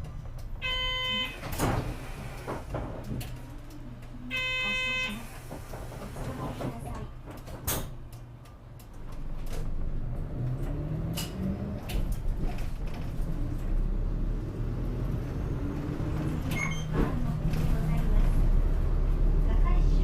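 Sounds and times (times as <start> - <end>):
bus engine accelerating: 0.0 - 4.3, 5.1 - 20.0.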